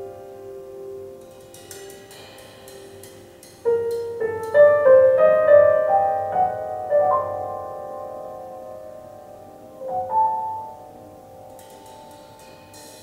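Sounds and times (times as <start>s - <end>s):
piano music over loudspeakers: 0.0s - 13.0s.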